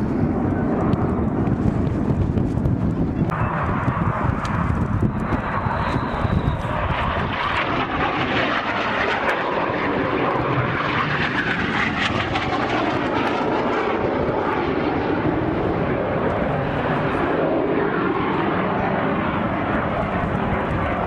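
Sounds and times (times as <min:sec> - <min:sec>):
aircraft engine droning overhead: 0:00.0 - 0:21.0.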